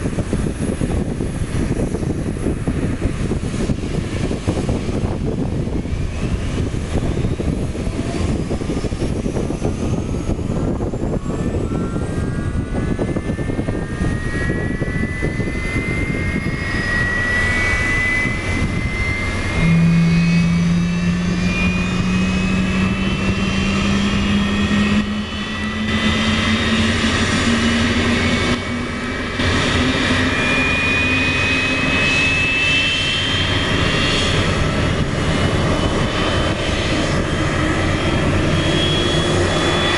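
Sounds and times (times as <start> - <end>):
jet engines spooling up: 0.0 - 39.9
low rumble: 0.0 - 39.9
rising low hum: 0.0 - 39.9.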